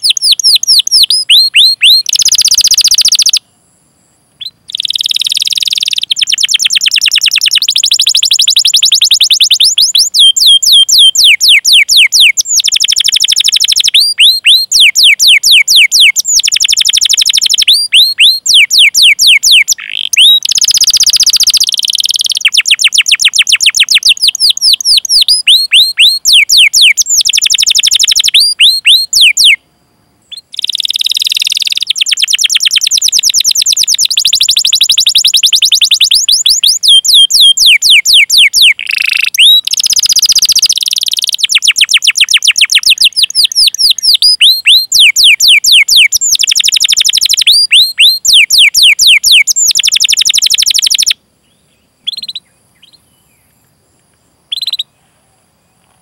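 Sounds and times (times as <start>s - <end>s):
canary singing whistled notes and trills: 0.0s - 53.6s, 54.4s - 55.0s.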